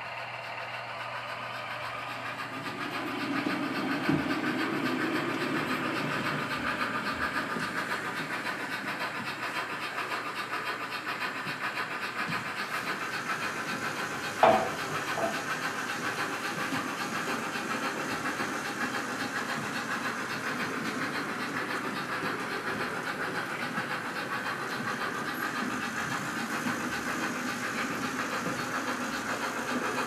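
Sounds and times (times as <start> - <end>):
model train whirring on rails: 0.0 - 30.0.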